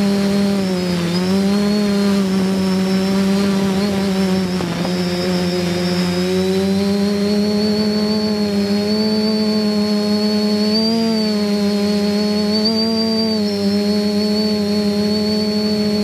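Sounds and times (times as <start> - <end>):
drone motors humming: 0.0 - 16.0
thin high whine: 0.0 - 16.0.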